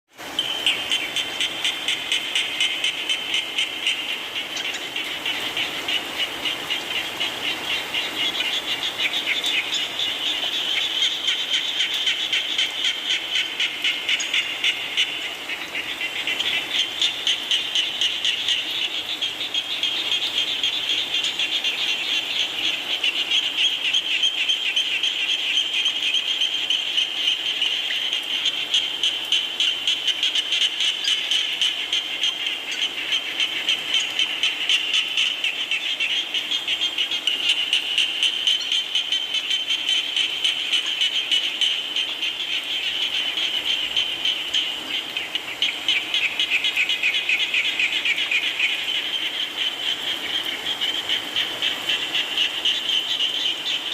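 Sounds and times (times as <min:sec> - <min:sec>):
rain falling: 0:00.1 - 0:53.9
frogs calling in trills: 0:00.2 - 0:53.9.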